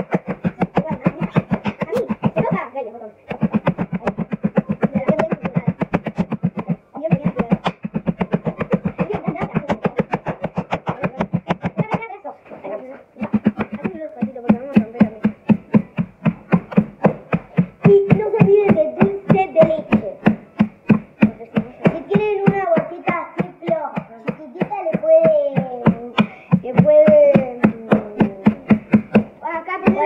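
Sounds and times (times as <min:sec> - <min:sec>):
rolling pin pounding cookies in bag: 0:00.0 - 0:12.1, 0:13.2 - 0:30.0
child's wordless voice: 0:00.0 - 0:15.8, 0:16.5 - 0:30.0.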